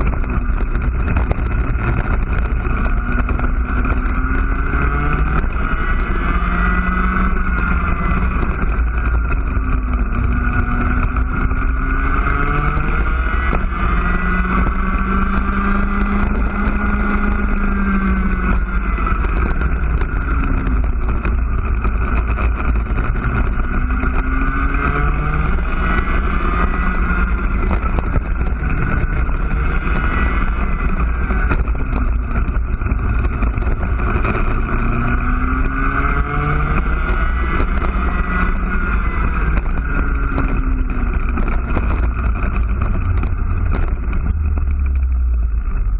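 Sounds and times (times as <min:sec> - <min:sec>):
kart engine at racing speed: 0:00.0 - 0:45.9.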